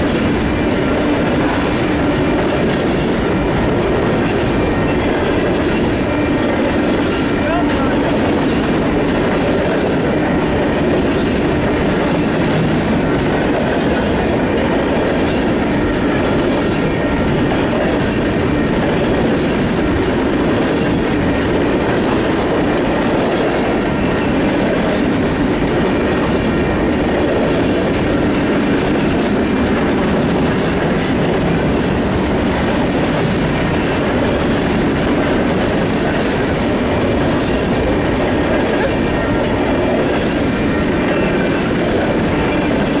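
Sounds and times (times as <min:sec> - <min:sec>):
train rumbling on track: 0:00.0 - 0:43.0
wheels clicking over rail joints: 0:00.0 - 0:43.0.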